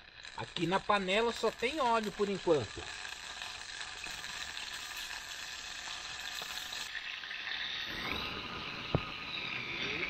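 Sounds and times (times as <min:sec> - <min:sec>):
oil sizzling in a pan: 0:00.0 - 0:10.0.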